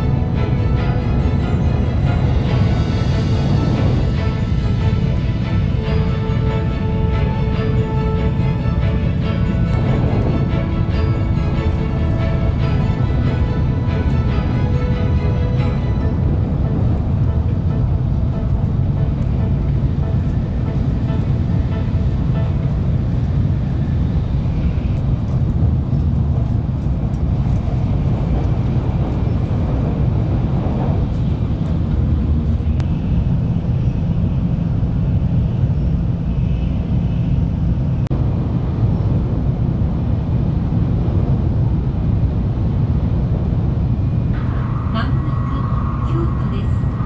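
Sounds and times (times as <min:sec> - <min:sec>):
train running at speed: 0:00.0 - 0:47.0.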